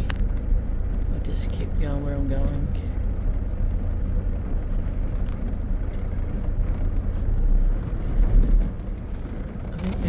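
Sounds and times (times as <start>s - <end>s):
engine and tyre rumble: 0.0s - 10.0s.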